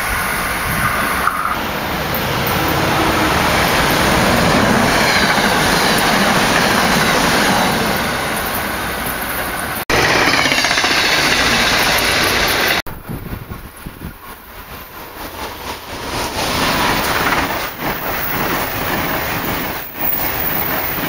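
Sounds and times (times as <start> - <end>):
train passing close by: 0.0 - 21.0.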